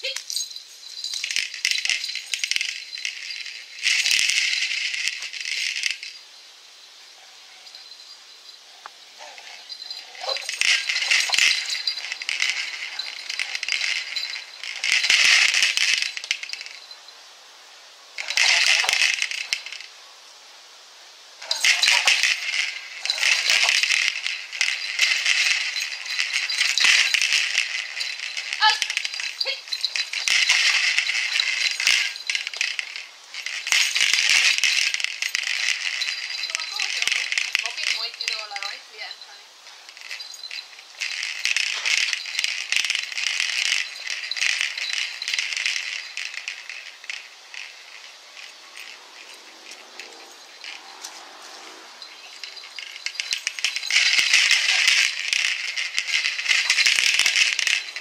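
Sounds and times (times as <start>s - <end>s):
rope toy rattling and rustling: 0.0s - 6.2s, 7.1s - 17.1s, 18.1s - 20.0s, 21.4s - 58.0s.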